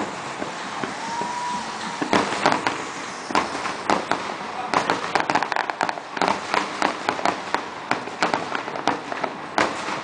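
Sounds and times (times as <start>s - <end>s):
firework shells bursting: 0.0s - 10.0s.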